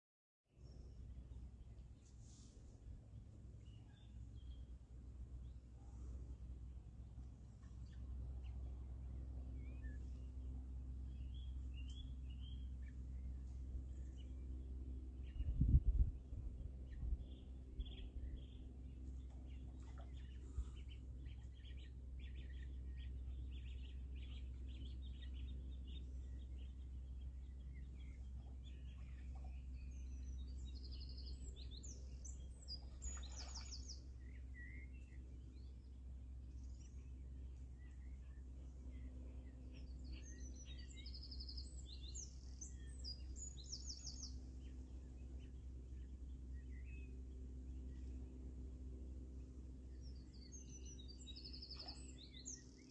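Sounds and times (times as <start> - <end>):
low background hum: 0.6 - 52.9
small birds chirping and singing: 3.4 - 52.9.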